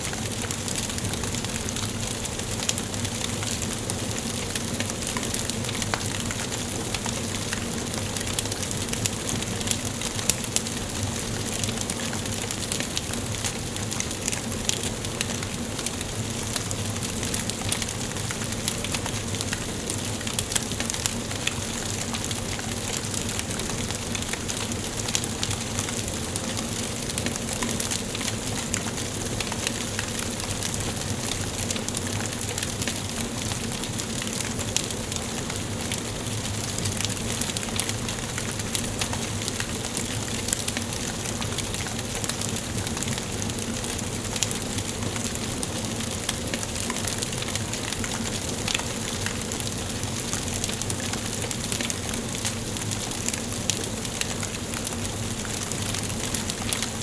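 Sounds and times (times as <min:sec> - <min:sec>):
fire crackles and pops: 0:00.0 - 0:57.0
fire hissing and rustling: 0:00.0 - 0:57.0.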